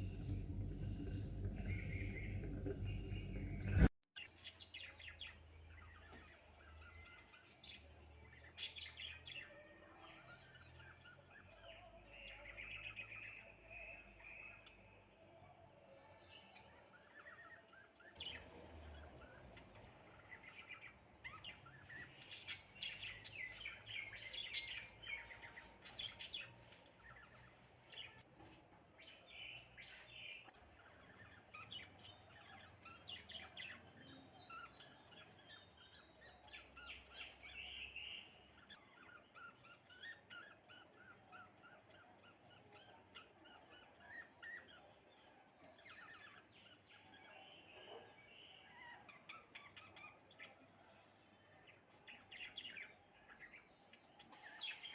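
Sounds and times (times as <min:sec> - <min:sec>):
sparrows chirping: 0:00.0 - 0:28.3, 0:28.9 - 0:54.9.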